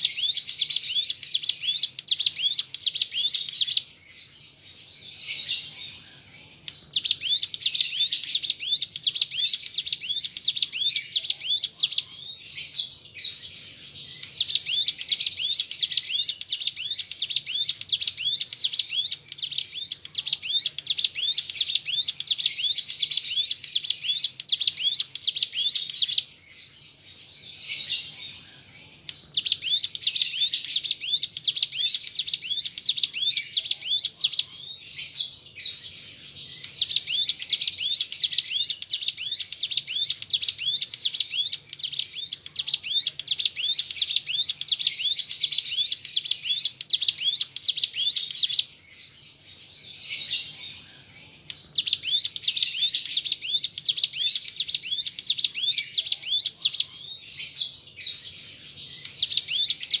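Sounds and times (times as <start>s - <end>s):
bird singing high chirps: 0.0s - 60.0s.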